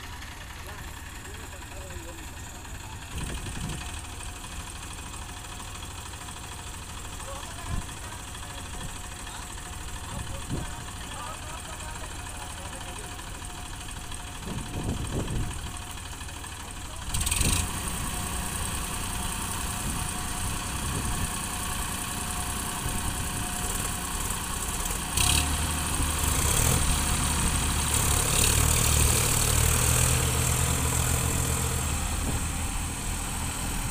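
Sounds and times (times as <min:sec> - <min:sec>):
diesel tractor engines running: 0:00.0 - 0:33.9.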